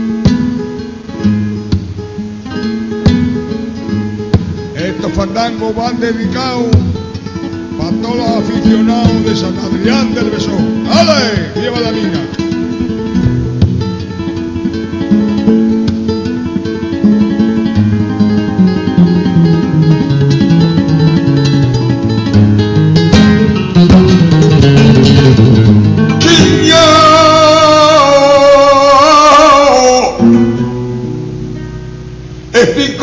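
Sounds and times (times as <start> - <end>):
flamenco guitar playing: 0.0 - 33.0.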